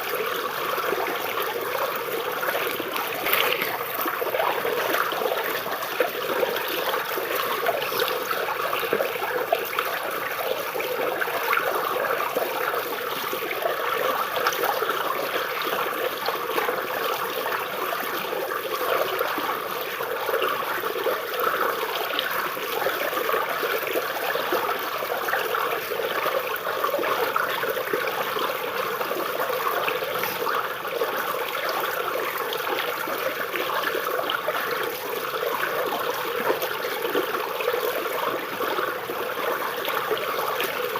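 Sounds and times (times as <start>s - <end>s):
stream babbling over roots: 0.0s - 40.9s.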